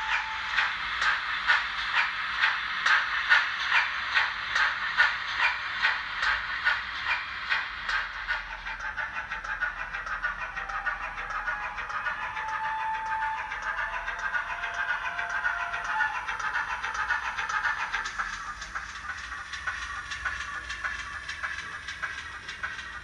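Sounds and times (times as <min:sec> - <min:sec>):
steam locomotive exhaust chuffs: 0:00.0 - 0:23.0.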